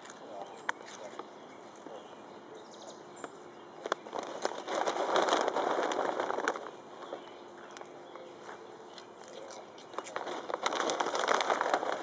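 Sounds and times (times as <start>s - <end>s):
crackling crunching rustle: 0.0s - 2.2s, 3.1s - 12.0s.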